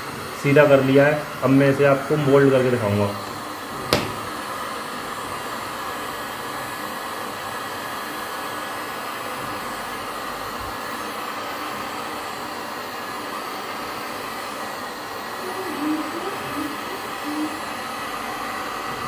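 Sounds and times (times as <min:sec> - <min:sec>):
heat gun blowing hot air: 0:00.0 - 0:19.0.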